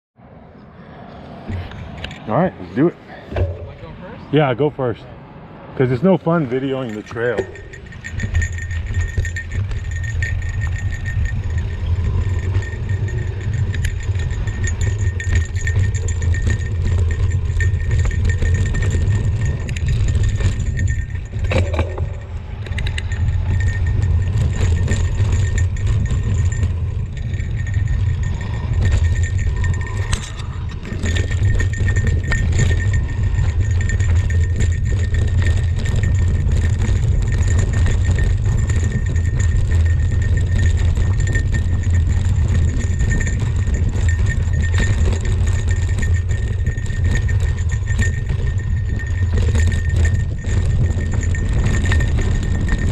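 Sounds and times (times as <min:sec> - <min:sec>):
wind and trail vibration rumble: 0:00.2 - 0:52.9
bike clicks and rattles: 0:01.5 - 0:03.9, 0:05.9 - 0:52.9.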